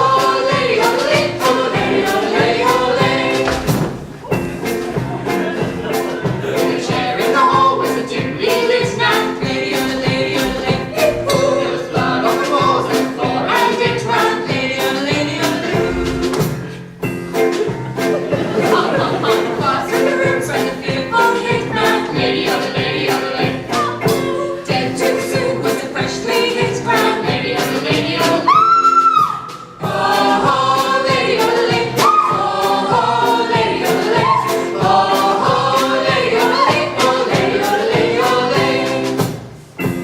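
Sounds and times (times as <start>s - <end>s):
group yodelling singing: 0.0s - 16.6s, 18.2s - 39.2s
backing track with steady beat: 0.0s - 40.0s.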